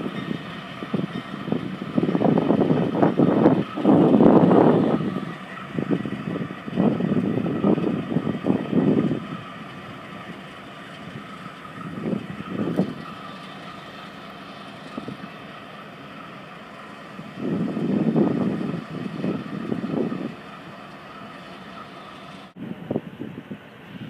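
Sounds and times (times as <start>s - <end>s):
wind buffeting microphone: 0.0s - 21.3s, 22.0s - 24.0s.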